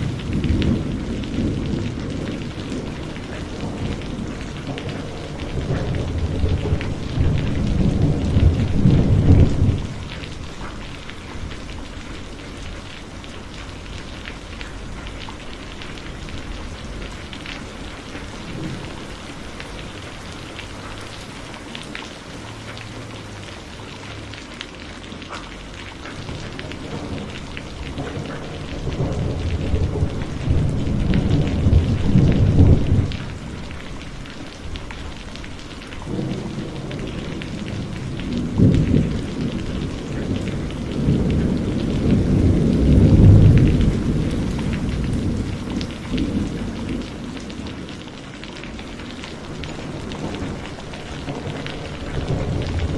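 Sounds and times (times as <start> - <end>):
rolling thunder: 0.0 - 23.6, 26.0 - 52.9
heavy rain falling: 0.0 - 52.9.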